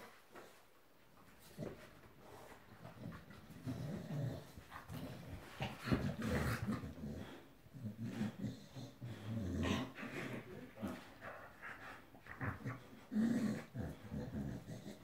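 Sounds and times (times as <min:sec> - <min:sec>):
dogs growling: 0:01.4 - 0:15.0.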